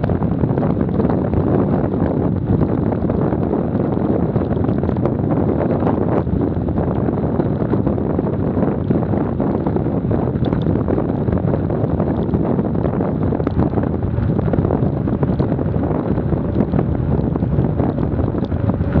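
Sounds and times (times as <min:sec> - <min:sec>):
road noise on wet tarmac: 0:00.0 - 0:19.0
wind buffeting microphone: 0:00.0 - 0:19.0.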